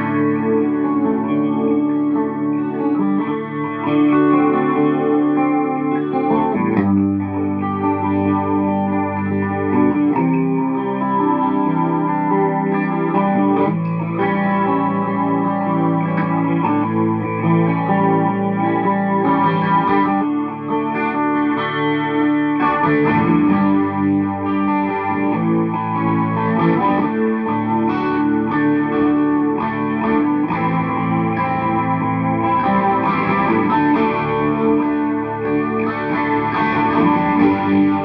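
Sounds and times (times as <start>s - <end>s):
clean electric guitar playing: 0.0s - 38.0s.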